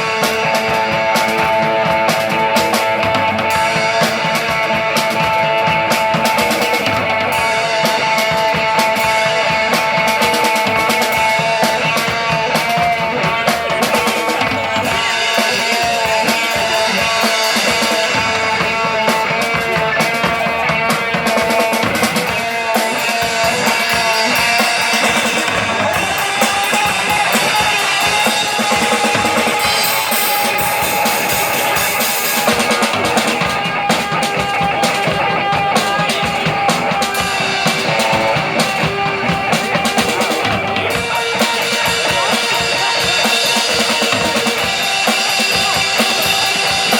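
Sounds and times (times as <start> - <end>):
busy drum kit: 0.0 - 46.9
guitar: 0.0 - 46.9
rock band playing live: 0.0 - 46.9.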